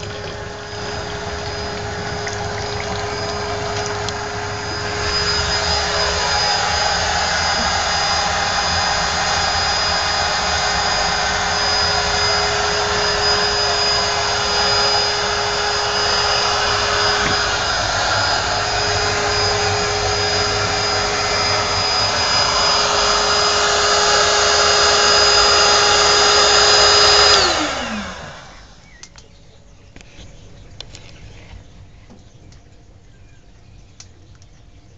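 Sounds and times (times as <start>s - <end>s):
electric motor humming and whining: 0.0s - 29.3s.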